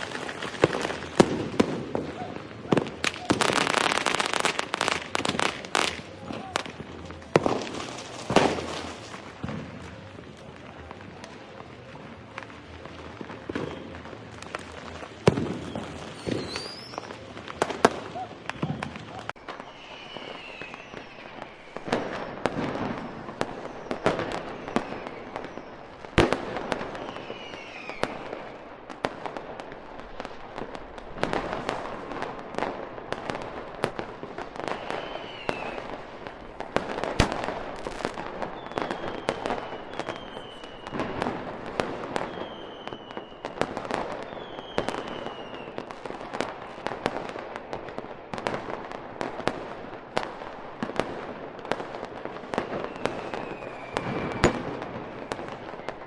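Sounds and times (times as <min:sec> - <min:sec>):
fireworks bangs and crackling: 0:00.0 - 0:56.0
fireworks falling whistles: 0:00.0 - 0:56.0.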